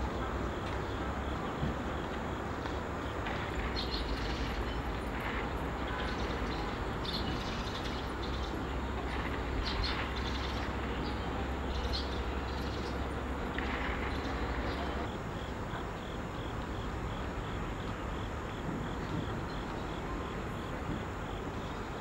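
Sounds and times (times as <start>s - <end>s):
distant traffic hum: 0.0s - 22.0s.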